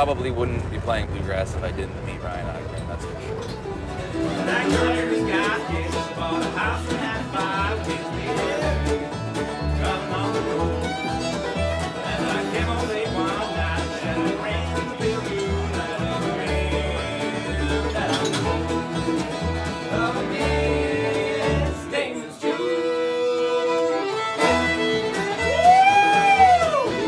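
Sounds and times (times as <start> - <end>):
upright bass plucking: 0.0 - 22.2, 23.2 - 27.0
bluegrass string band: 0.0 - 27.0.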